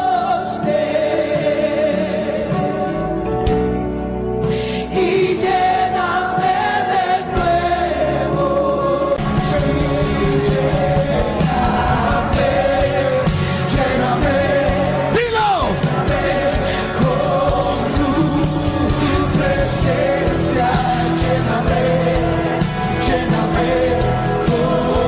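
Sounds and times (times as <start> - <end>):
worship song with band: 0.0 - 25.0.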